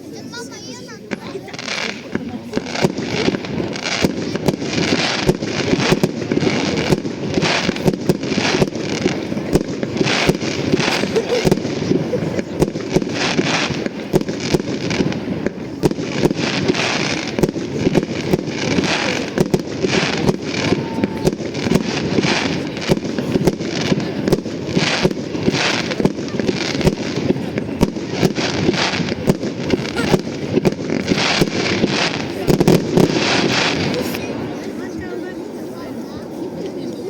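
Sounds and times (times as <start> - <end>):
fireworks bangs: 0.0 - 37.0
fireworks hissing crackle: 0.0 - 37.0.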